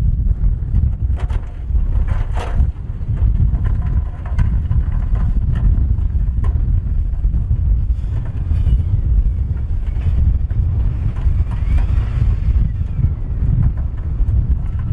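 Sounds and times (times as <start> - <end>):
rocks knocking and clattering: 0.2 - 14.9.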